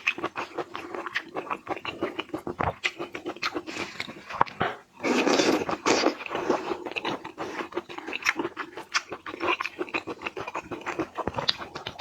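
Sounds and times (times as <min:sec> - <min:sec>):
chewing shrimp: 0:00.0 - 0:12.0.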